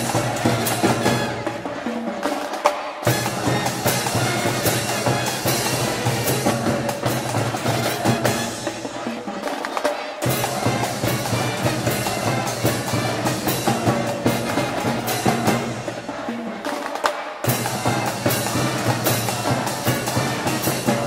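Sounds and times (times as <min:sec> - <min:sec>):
brass band playing cheer tune: 0:00.0 - 0:21.0
steady drum beats: 0:00.0 - 0:21.0.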